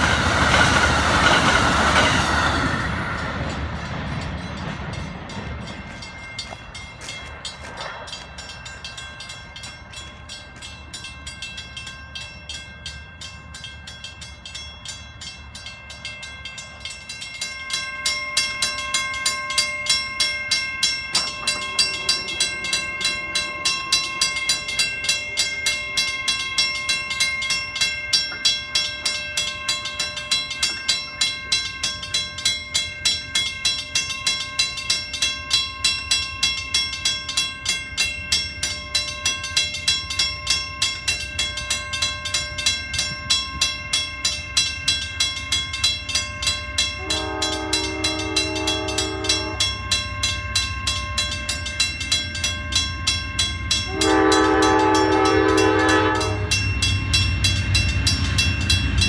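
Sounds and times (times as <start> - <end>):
crossing warning bell ringing: 0.0 - 59.0.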